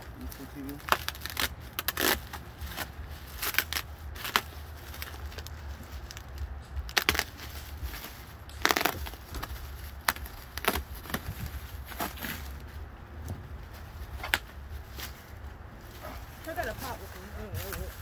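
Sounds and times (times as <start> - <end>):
bubble wrap crinkling: 0.0 - 18.0
low steady rumble: 0.0 - 18.0.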